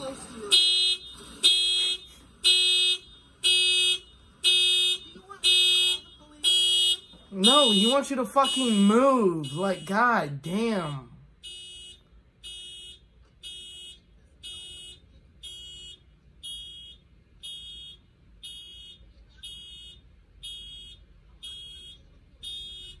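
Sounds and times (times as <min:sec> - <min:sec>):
car alarm beeping: 0:00.0 - 0:23.0.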